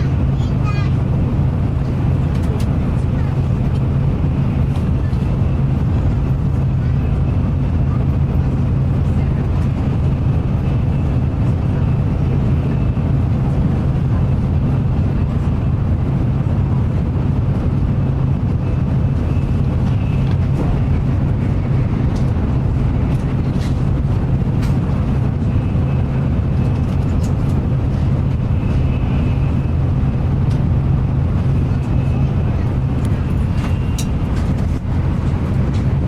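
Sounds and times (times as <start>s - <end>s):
train cabin rumble: 0.0s - 36.0s.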